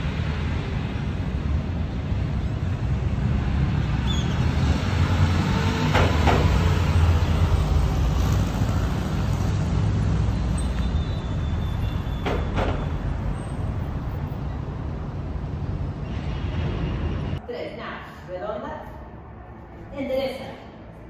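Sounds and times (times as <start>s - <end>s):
passing traffic rumble: 0.0s - 17.5s.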